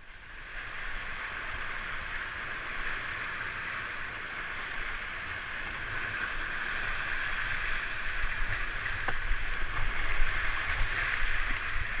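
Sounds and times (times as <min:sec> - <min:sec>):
whitewater rushing and splashing: 0:00.2 - 0:12.0.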